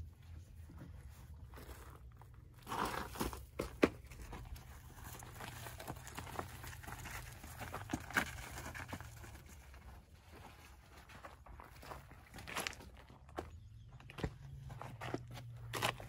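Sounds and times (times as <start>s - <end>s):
footsteps crunching on gravel: 1.0s - 16.0s.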